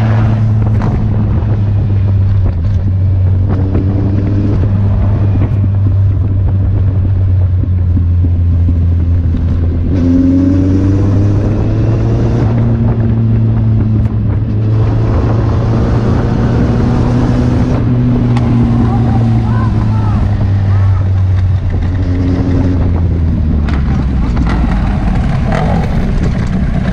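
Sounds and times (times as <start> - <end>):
motorcycle engine accelerating: 0.0 - 26.9.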